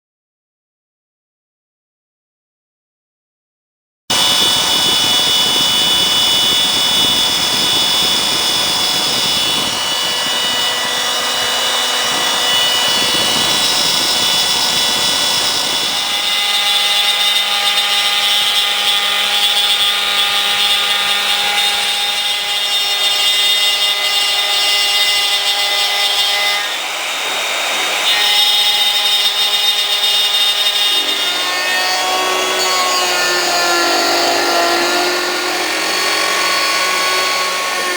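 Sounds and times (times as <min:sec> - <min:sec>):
lower machine tones: 0:04.1 - 0:37.9
spindle whining: 0:04.1 - 0:37.9.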